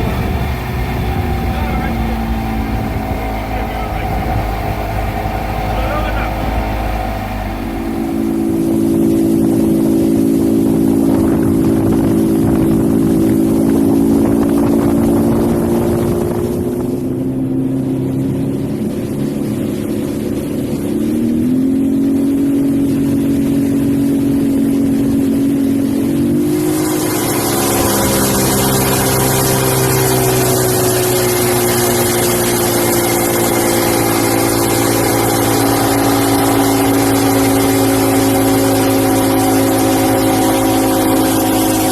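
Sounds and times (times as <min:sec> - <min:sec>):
outboard motor running: 0:00.0 - 0:41.9
rush of wind and water: 0:00.0 - 0:41.9.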